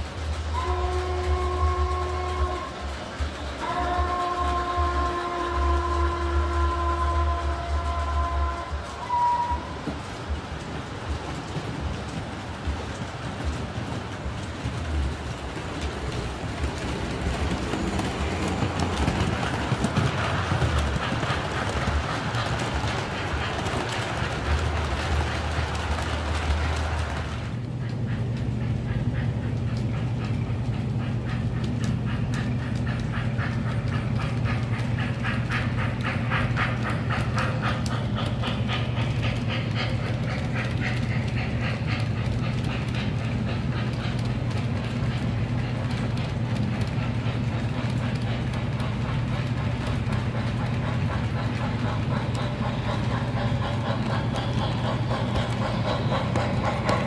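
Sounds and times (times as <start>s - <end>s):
model steam train chuffing: 0.0s - 57.0s
wheels clattering on track: 0.0s - 57.0s.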